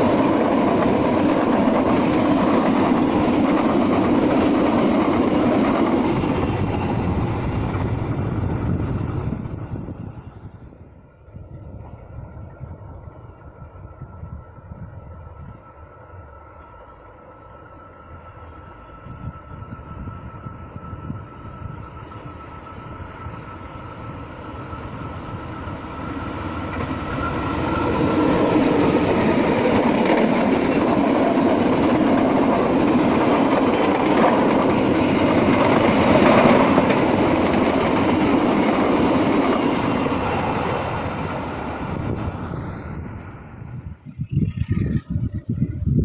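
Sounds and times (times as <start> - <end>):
train rumbling over rails: 0.0 - 46.0.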